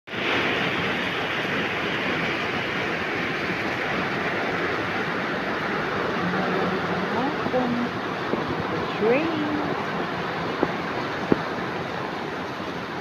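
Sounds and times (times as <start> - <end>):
steady rain: 0.1 - 13.0.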